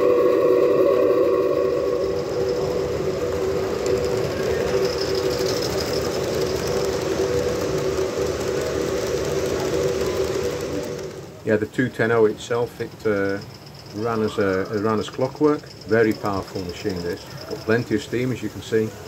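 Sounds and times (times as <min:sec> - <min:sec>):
model steam locomotive running past: 0:00.0 - 0:19.0
steam engine model howling: 0:00.0 - 0:19.0.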